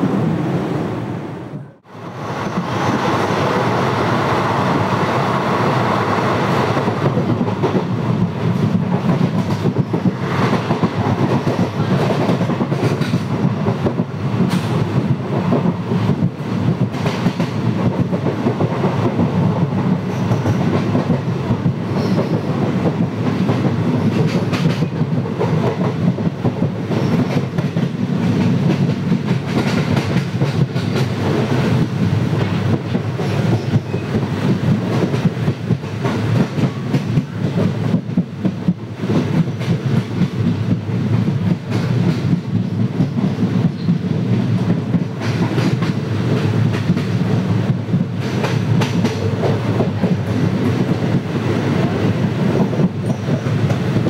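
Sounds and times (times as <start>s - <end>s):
train rumble: 0.0s - 54.0s
train wheels clickety-clack: 6.4s - 54.0s.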